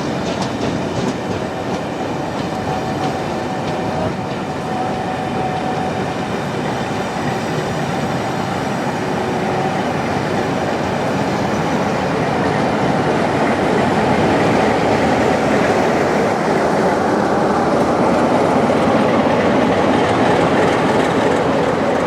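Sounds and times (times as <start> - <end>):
train coaches rumbling on rails: 0.0 - 22.0.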